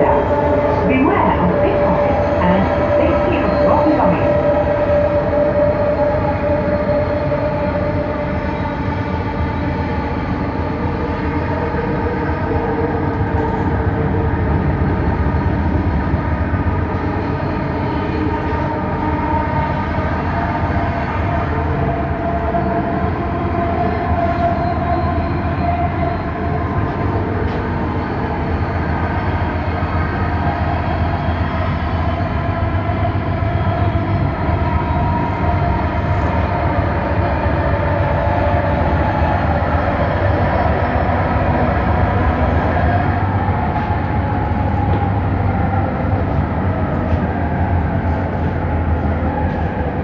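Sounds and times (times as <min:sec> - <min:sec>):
train running gear rumble: 0:00.0 - 0:50.0.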